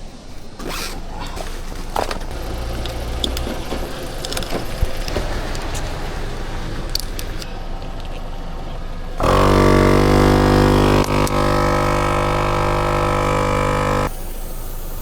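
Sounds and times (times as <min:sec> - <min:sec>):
car engine idling: 0:01.8 - 0:14.1.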